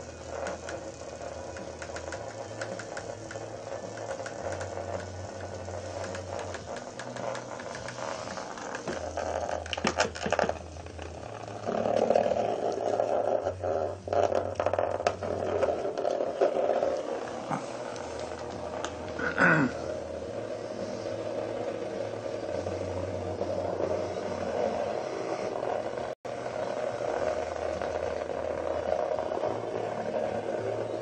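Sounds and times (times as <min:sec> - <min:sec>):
clicks and scrapes: 0:00.0 - 0:31.0
vibrating toy buzzing and rattling: 0:00.0 - 0:31.0.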